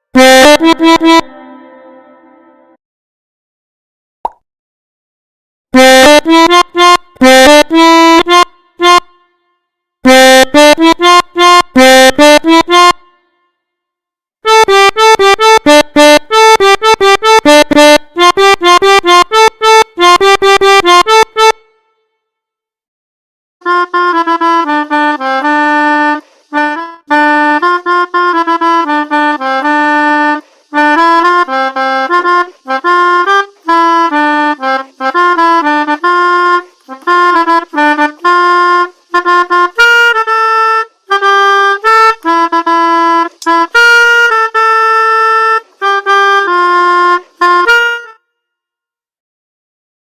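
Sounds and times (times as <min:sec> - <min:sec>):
melodica melody: 0:00.0 - 0:02.8, 0:05.8 - 0:09.2, 0:10.1 - 0:13.1, 0:14.5 - 0:21.7, 0:23.6 - 0:48.2.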